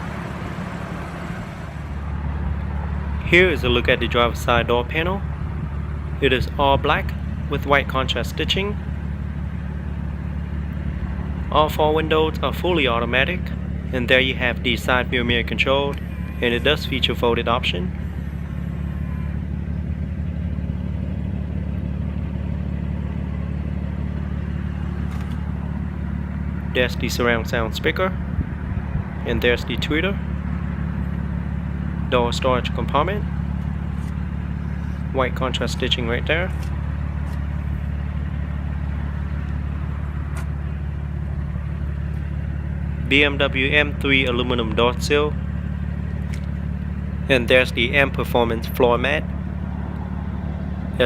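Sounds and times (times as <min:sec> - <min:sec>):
car engine idling: 0:00.0 - 0:51.0
steady low hum: 0:00.0 - 0:51.0.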